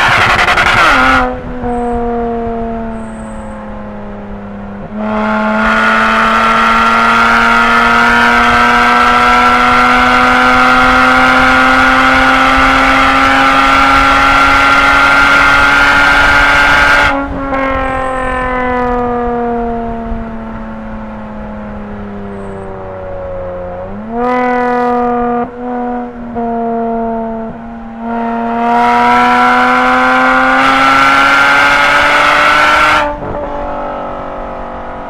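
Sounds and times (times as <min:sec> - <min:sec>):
car engine at full throttle: 0:00.0 - 0:35.0.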